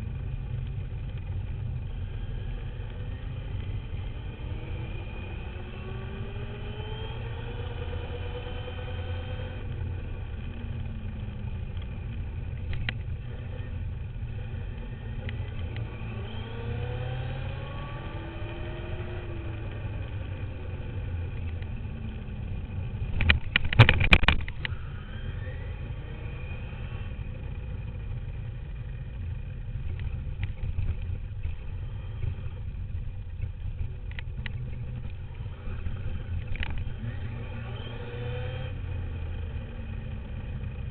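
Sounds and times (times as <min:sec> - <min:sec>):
rumble of vibration and ground noise: 0:00.0 - 0:40.9.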